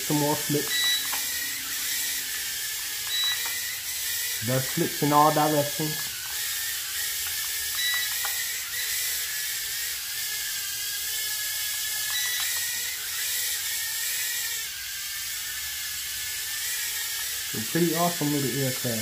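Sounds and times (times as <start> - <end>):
quadcopter propeller motors whining: 0.0 - 19.0.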